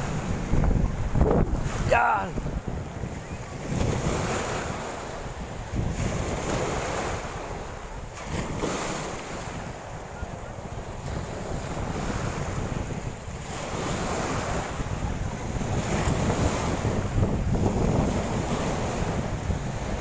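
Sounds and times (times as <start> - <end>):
small waves washing ashore: 0.0 - 20.0
wind buffeting microphone: 0.0 - 20.0.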